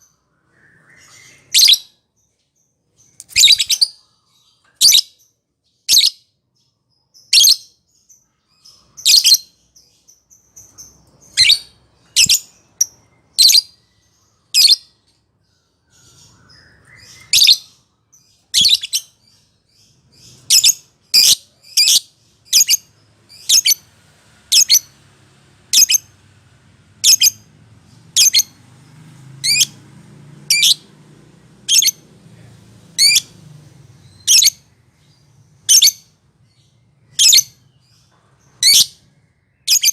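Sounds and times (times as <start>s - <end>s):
lovebird chirping: 0.0s - 6.3s, 6.9s - 25.0s, 25.7s - 26.4s, 27.0s - 28.6s, 29.4s - 29.8s, 30.4s - 30.9s, 31.6s - 32.1s, 32.9s - 39.9s.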